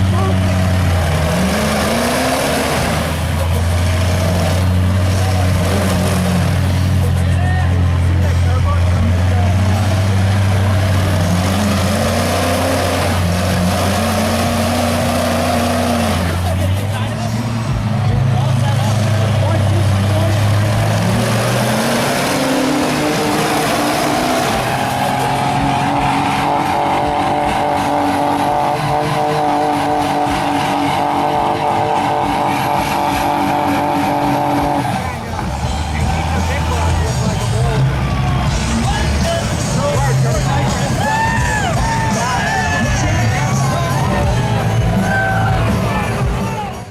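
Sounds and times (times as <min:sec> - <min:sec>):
vehicle engine humming: 0:00.0 - 0:46.9.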